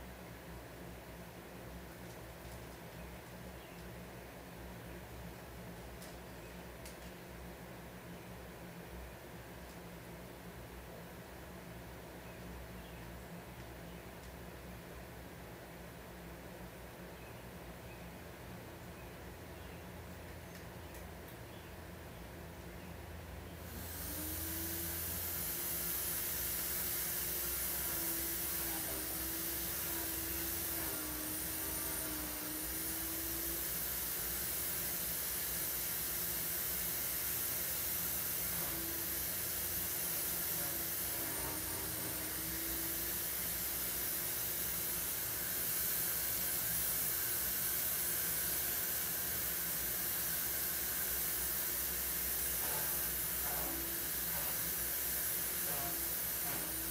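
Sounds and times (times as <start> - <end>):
room noise hiss: 0.0 - 56.9.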